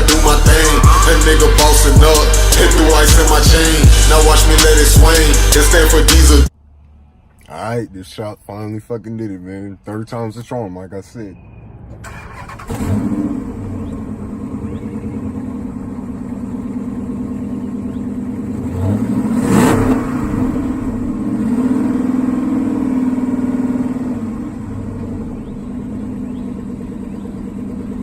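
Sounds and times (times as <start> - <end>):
loud car engine idling and revving: 0.0 - 7.3, 11.4 - 28.0.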